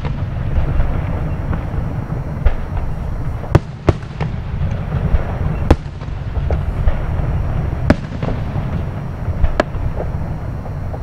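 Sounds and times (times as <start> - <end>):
firework shells bursting: 0.0 - 11.0
low rumble: 0.0 - 11.0.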